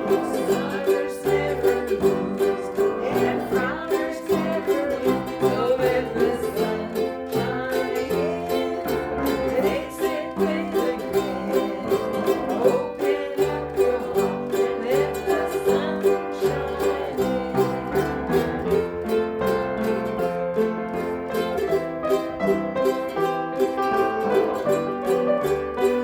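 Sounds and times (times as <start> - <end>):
plucked string instrument strumming: 0.0 - 26.0.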